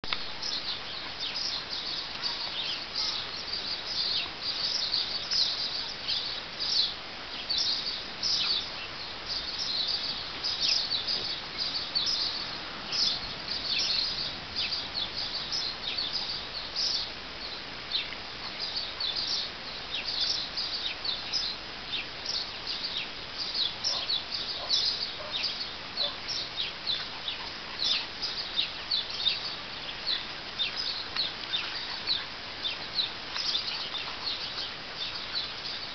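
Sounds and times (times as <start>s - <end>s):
small birds chirping: 0.0s - 35.9s
steady outdoor hiss: 0.0s - 35.9s.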